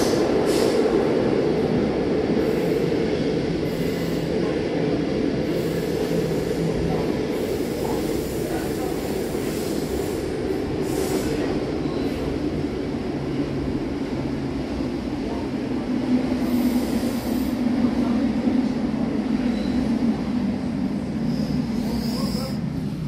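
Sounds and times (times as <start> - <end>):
electric train rumble: 0.0 - 23.0.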